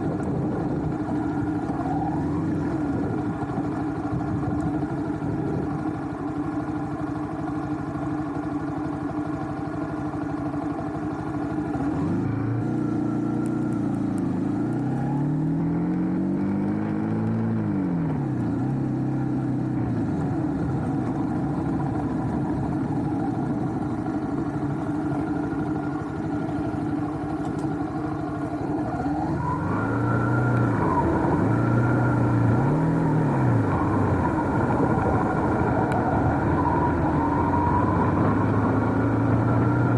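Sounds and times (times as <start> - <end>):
motorcycle engine running and revving: 0.0 - 39.9.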